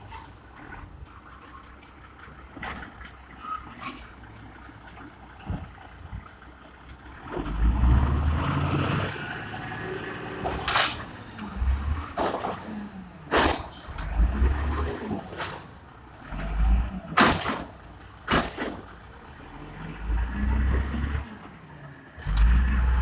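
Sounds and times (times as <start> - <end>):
garbage truck diesel engine revving: 3.9 - 23.0.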